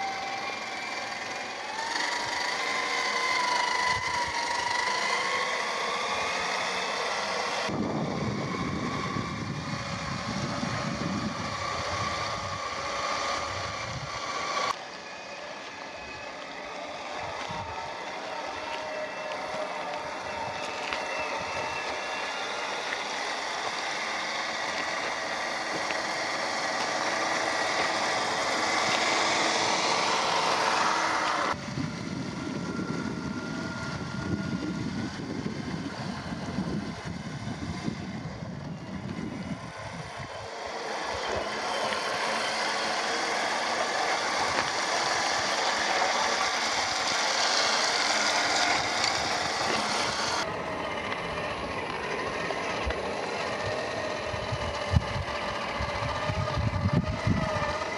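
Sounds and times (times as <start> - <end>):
rc car motor whining and grinding: 0.0 - 57.9.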